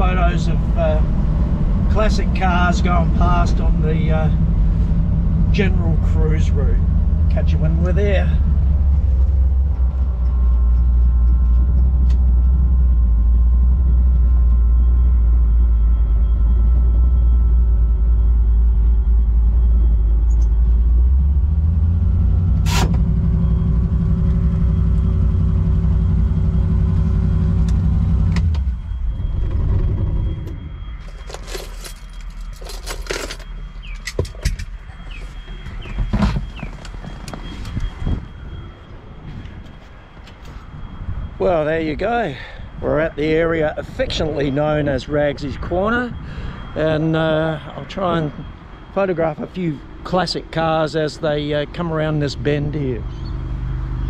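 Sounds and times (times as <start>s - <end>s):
car engine rumbling: 0.0s - 54.0s.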